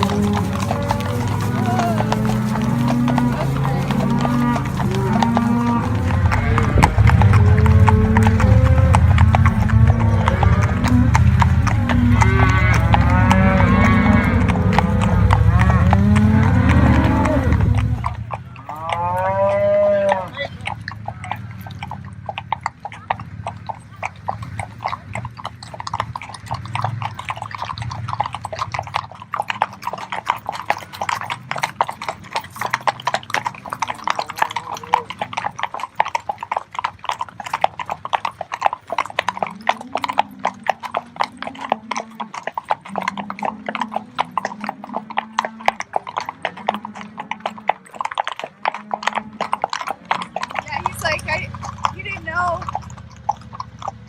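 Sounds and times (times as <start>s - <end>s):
horse hooves clip-clopping: 0.0s - 54.0s.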